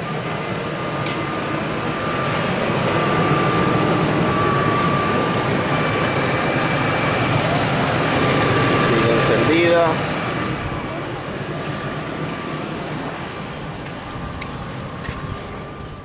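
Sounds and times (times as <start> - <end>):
car engine idling: 0.0 - 16.0
faint steady whine: 0.0 - 16.0.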